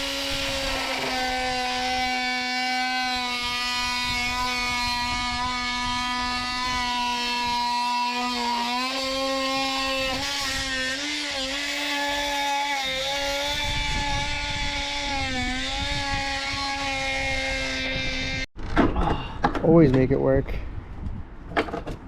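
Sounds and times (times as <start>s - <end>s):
small motor running: 0.0s - 18.5s.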